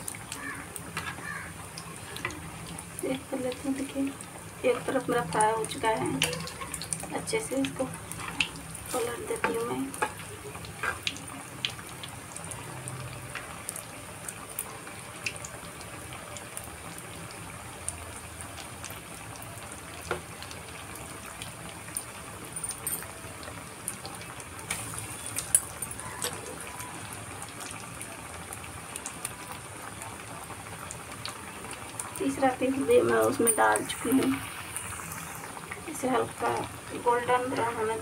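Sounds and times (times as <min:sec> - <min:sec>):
bread deep-frying in oil: 0:00.0 - 0:38.0
oil crackles and clicks: 0:00.0 - 0:38.0.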